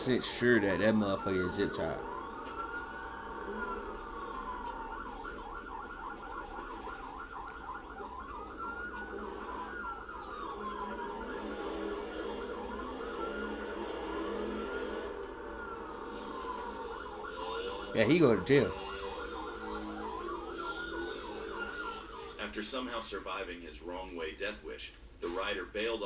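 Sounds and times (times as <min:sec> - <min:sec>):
road noise: 0:00.0 - 0:23.0
police siren wailing and yelping: 0:00.0 - 0:24.0.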